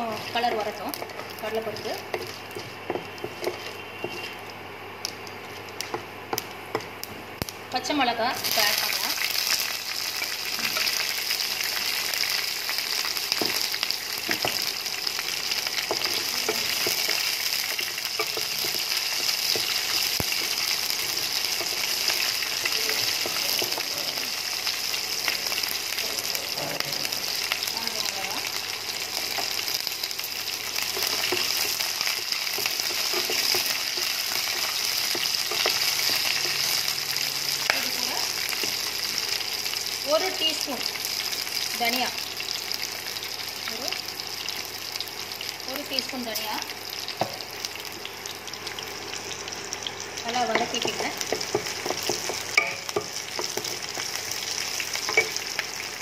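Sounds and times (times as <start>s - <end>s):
oil sizzling: 0.0s - 56.0s.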